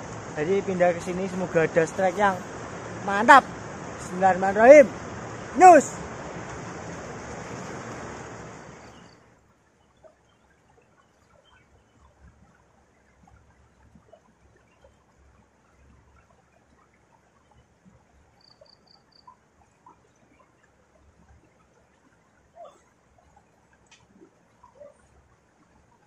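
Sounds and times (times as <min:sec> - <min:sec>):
light rain ticking: 0:00.0 - 0:26.0.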